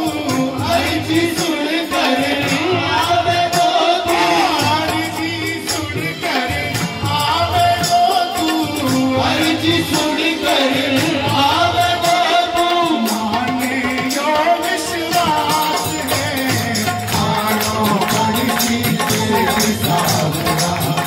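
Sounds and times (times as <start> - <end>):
accompanying instruments: 0.0 - 21.0
jingling tambourine-like percussion: 0.0 - 21.0
man singing through microphone: 0.0 - 21.0.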